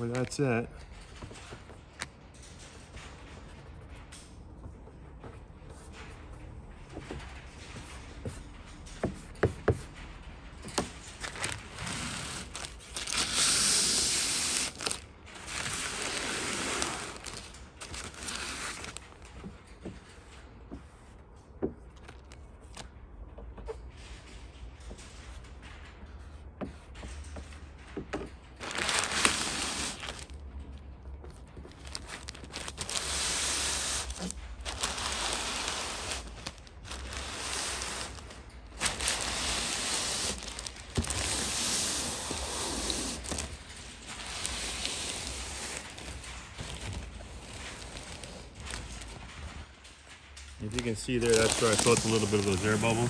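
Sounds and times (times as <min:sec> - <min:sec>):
plastic film rustling: 0:00.0 - 0:04.4, 0:05.5 - 0:53.0.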